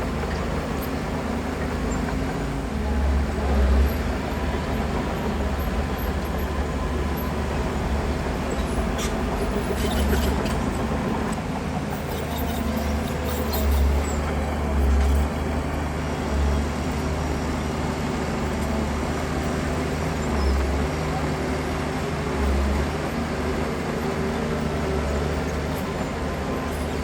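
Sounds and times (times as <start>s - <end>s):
diesel machinery engine rumble: 0.0s - 27.0s.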